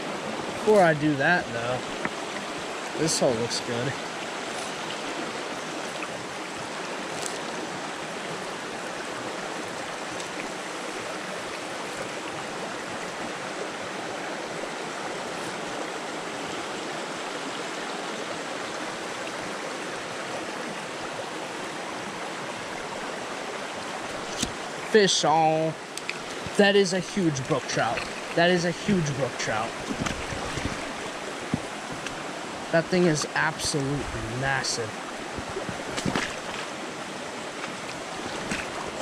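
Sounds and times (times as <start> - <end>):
stream running over rocks: 0.0 - 39.0.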